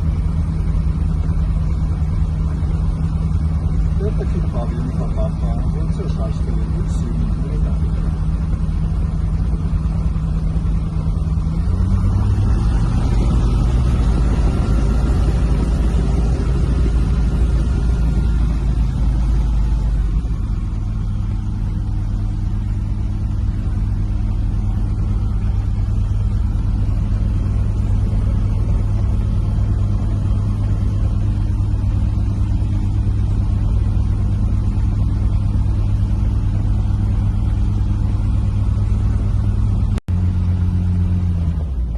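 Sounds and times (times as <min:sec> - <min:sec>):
airplane piston engine droning: 0:00.0 - 0:41.9.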